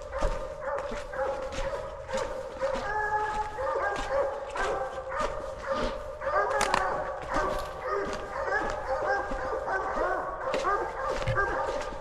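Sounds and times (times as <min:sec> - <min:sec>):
dogs barking: 0:00.0 - 0:12.0.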